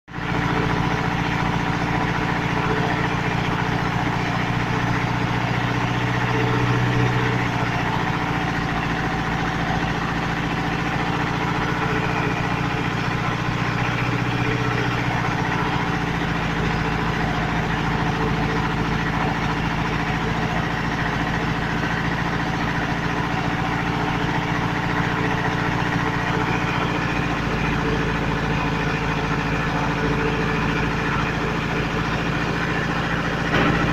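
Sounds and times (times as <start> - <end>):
car engine running steadily: 0.1 - 33.9.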